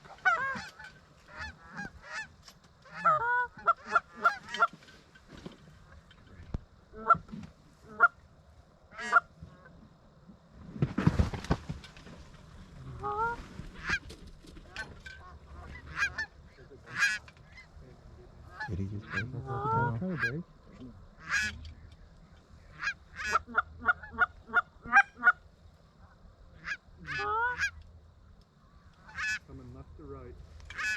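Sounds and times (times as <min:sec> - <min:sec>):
geese honking and clucking: 0:00.0 - 0:08.2, 0:08.9 - 0:09.8, 0:12.8 - 0:27.9, 0:28.5 - 0:29.6, 0:30.4 - 0:30.9.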